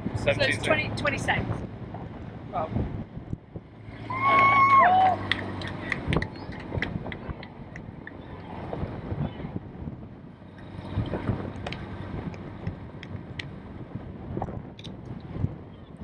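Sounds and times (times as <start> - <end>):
low steady rumble: 0.0 - 16.0
wind buffeting microphone: 0.0 - 16.0.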